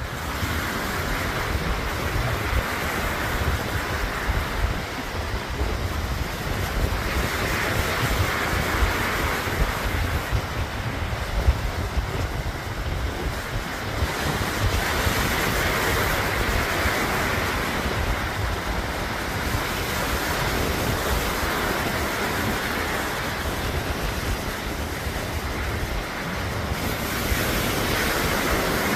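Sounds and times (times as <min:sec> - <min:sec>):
surf breaking on beach: 0:00.0 - 0:28.9
wind on microphone: 0:00.0 - 0:28.9.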